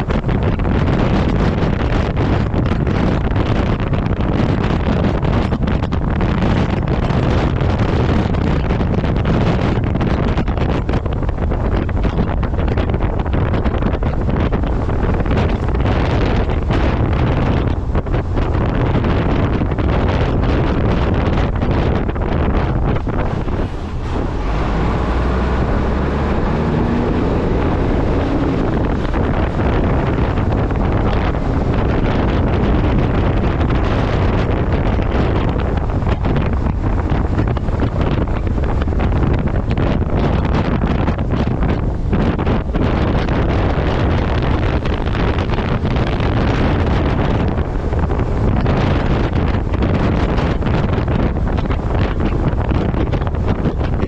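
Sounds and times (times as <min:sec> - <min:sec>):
truck engine rumble: 0:00.0 - 0:54.0
wind buffeting microphone: 0:00.0 - 0:54.0.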